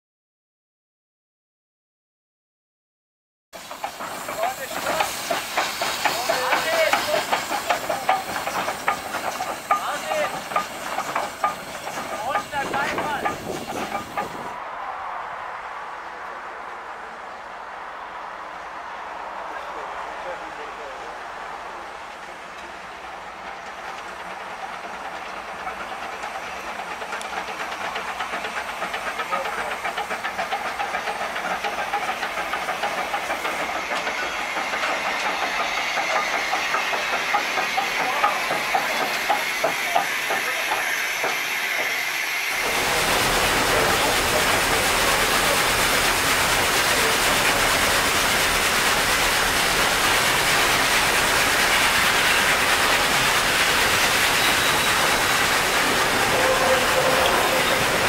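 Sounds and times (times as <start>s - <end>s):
steam locomotive working: 3.6s - 58.0s
train running noise: 3.6s - 58.0s.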